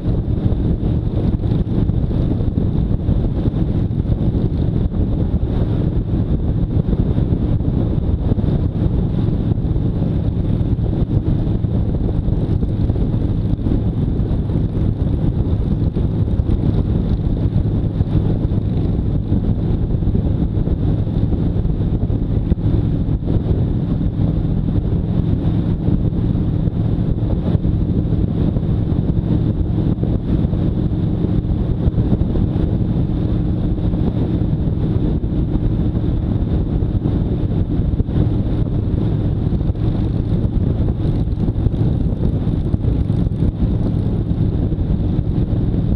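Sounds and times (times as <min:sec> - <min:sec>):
motorcycle engine cruising: 0:00.0 - 0:45.9
wind noise on microphone: 0:00.0 - 0:45.9.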